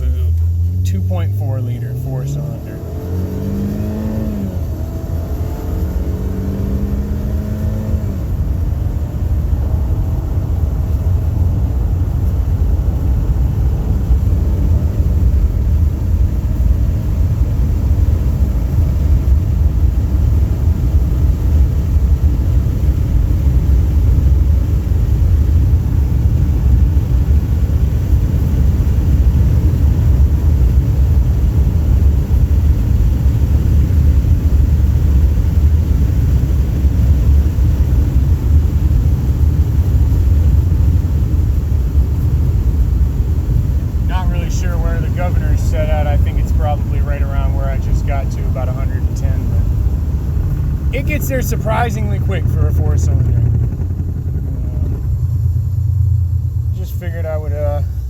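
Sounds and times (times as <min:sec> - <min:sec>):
car engine accelerating hard: 0:00.0 - 0:58.0
wind and road noise: 0:00.0 - 0:58.0.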